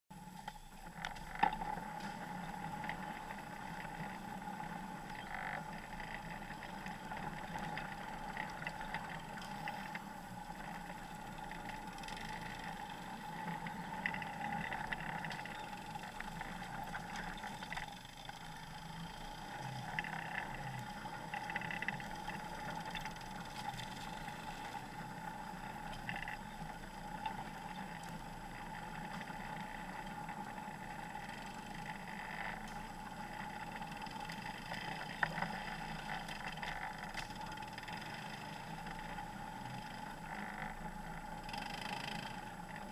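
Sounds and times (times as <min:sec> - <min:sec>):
off-road vehicle engine running: 0:00.1 - 0:42.9.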